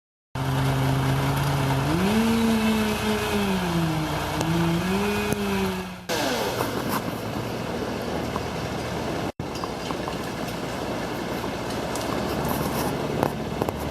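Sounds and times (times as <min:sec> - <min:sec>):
engine running: 0:00.4 - 0:13.9
rough noisy engine: 0:00.4 - 0:13.9.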